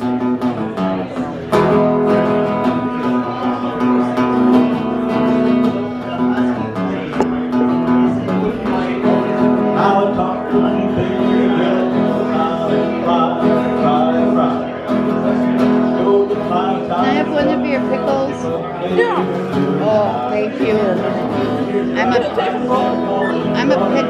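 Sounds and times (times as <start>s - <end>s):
two acoustic guitars playing: 0.0s - 24.0s.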